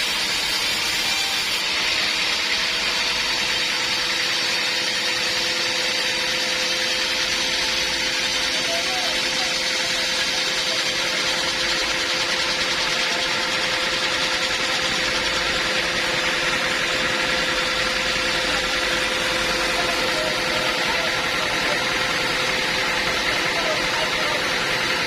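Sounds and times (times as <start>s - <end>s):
band sawmill running: 0.0s - 25.0s.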